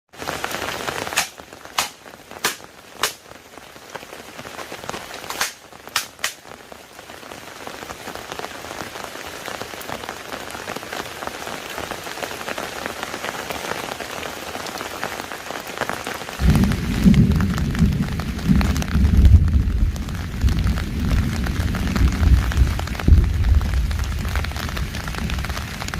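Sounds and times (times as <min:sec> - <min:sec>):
raindrops tapping a hard surface: 0:00.1 - 0:25.9
steady rain hiss: 0:00.1 - 0:25.9.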